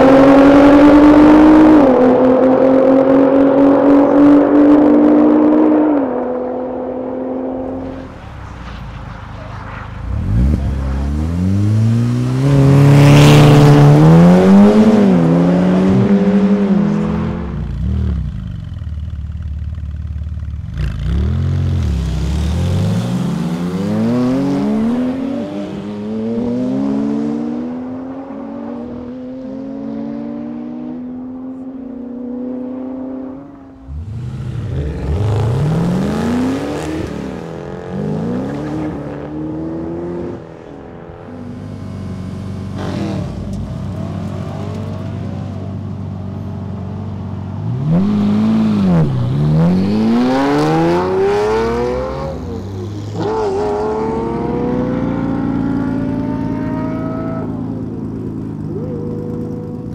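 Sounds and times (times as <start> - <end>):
supercar engines accelerating: 0.0 - 19.1, 20.6 - 59.9.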